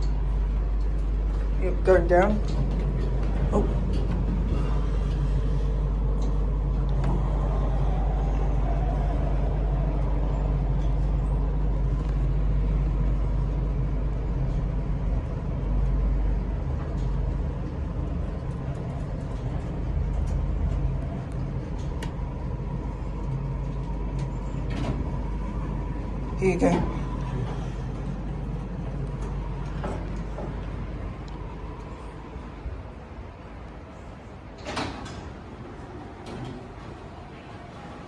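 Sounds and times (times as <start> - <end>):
lift low rumble and hum: 0.0 - 38.0.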